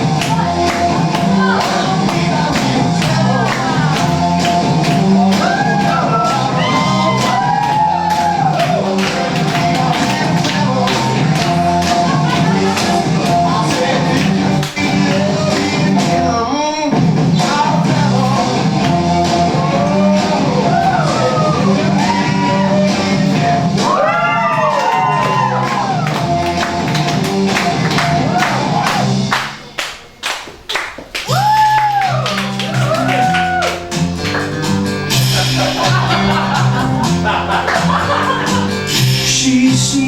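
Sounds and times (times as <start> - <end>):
band music with singing: 0.0 - 29.4, 31.3 - 40.0.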